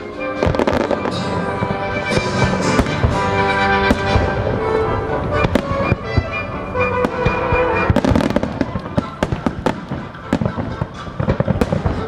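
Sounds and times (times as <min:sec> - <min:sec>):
fireworks bangs and crackles: 0:00.0 - 0:12.0
orchestral music over loudspeakers: 0:00.0 - 0:12.0.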